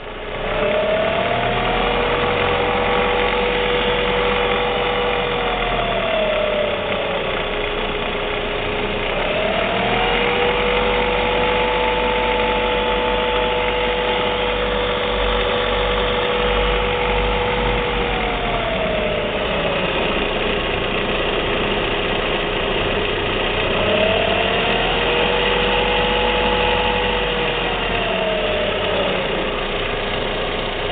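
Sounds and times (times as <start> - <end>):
car engine running: 0.0 - 30.9
high-pitched engine whine: 0.0 - 30.9.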